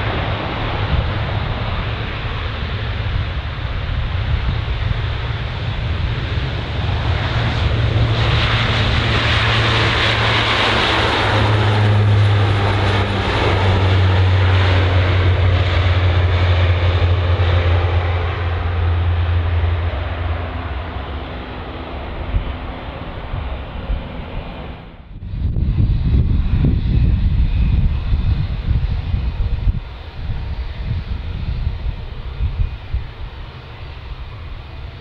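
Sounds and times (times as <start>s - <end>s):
airliner engines rushing: 0.0s - 35.0s
low engine drone: 0.0s - 35.0s.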